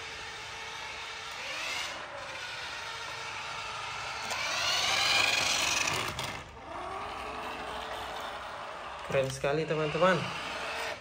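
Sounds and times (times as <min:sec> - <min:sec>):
toy electric motor whining: 0:00.0 - 0:11.0.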